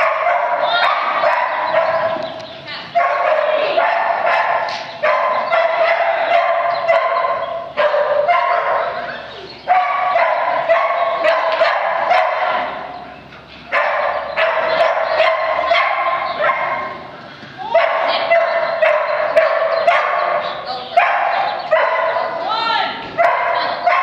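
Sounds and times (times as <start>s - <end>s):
dog barking: 0.0s - 12.9s, 13.7s - 17.0s, 17.7s - 22.4s, 23.2s - 24.0s.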